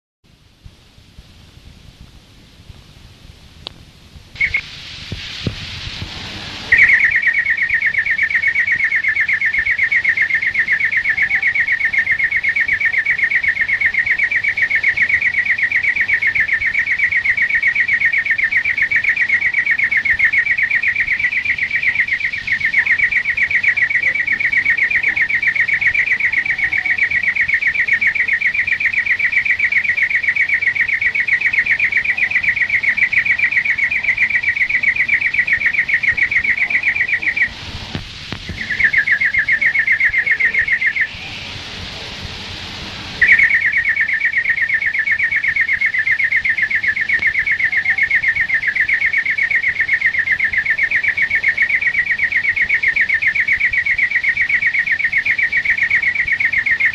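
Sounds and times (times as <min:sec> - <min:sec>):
finch singing a trill: 0:04.4 - 0:04.6, 0:06.7 - 0:37.6, 0:38.5 - 0:41.4, 0:43.2 - 0:56.9.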